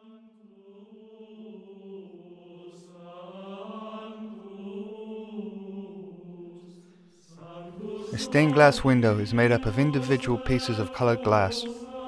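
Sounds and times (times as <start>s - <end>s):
chant-like voices holding low note: 0.0s - 12.0s.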